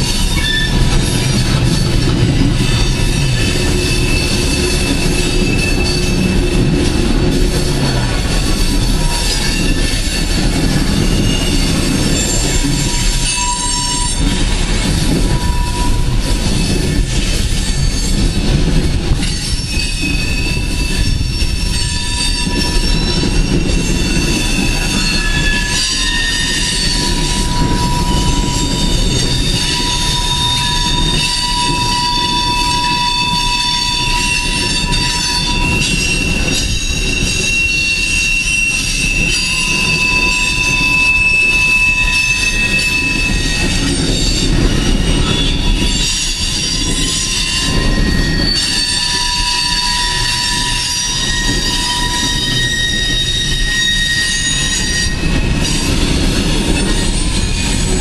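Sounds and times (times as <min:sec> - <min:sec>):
high wheel squeal: 0:00.0 - 0:18.4, 0:19.1 - 0:58.0
train wheels rumbling on rail: 0:00.0 - 0:58.0.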